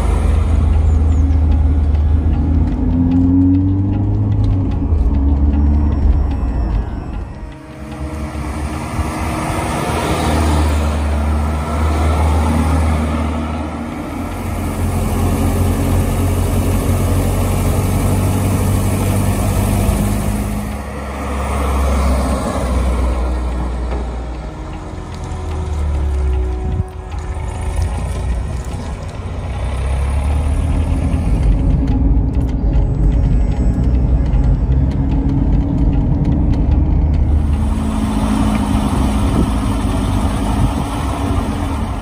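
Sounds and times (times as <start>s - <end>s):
car engine humming: 0.0s - 42.0s.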